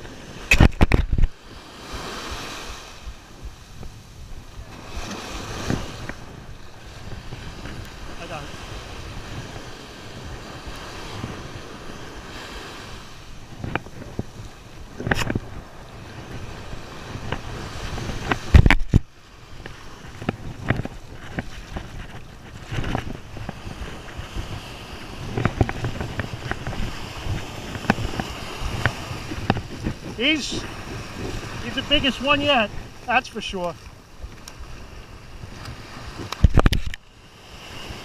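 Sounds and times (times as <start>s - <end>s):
ocean surf breaking: 0.0s - 38.0s
wind buffeting microphone: 0.0s - 38.0s.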